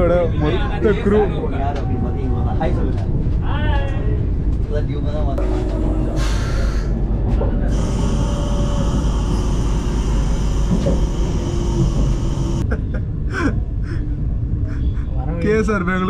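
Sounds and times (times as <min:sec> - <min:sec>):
train rumble inside coach: 0:00.0 - 0:15.4.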